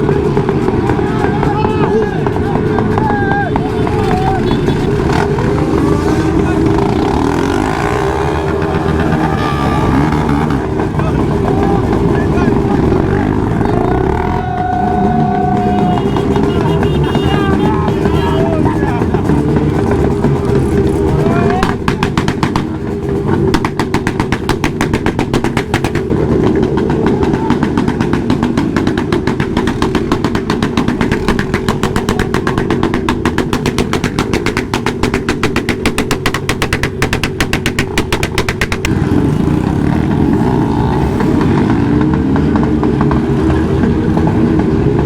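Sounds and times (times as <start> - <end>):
motorcycle engine running and revving: 0.0 - 45.0.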